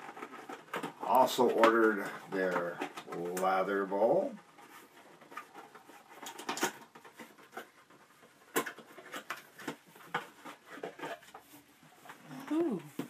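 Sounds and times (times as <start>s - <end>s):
paper rustling and crinkling: 0.0s - 12.4s.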